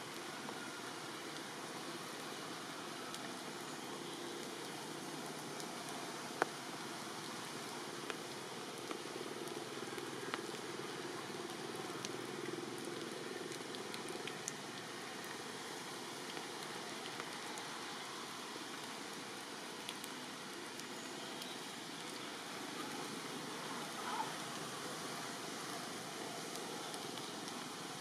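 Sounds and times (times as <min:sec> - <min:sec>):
raindrop ticks: 0:00.0 - 0:28.0
steady rainfall: 0:00.0 - 0:28.0.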